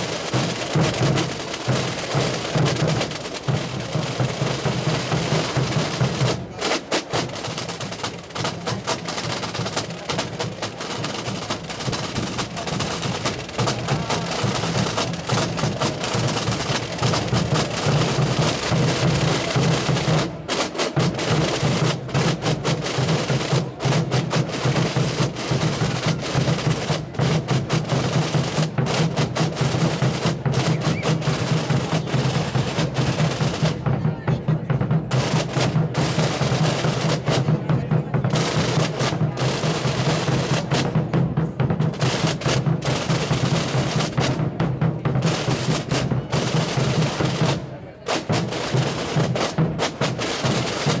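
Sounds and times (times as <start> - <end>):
snare drum roll: 0.0 - 51.0.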